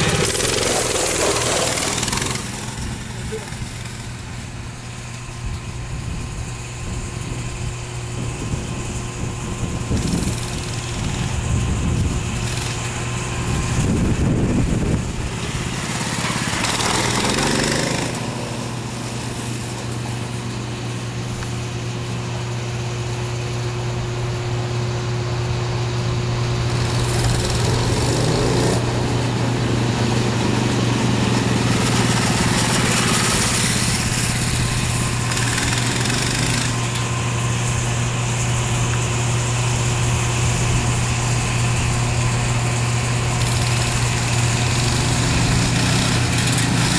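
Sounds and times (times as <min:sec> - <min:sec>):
small gasoline engine running: 0:00.0 - 0:46.9.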